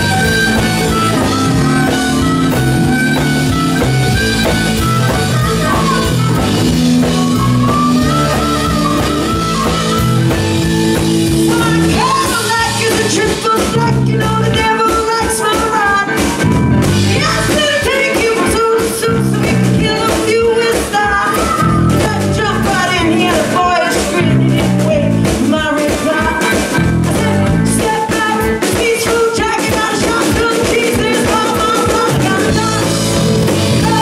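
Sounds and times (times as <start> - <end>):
bass guitar: 0.0 - 34.0
drum kit: 0.0 - 34.0
electric guitar: 0.0 - 34.0
harmonica through microphone: 0.0 - 34.0
woman singing: 0.0 - 34.0.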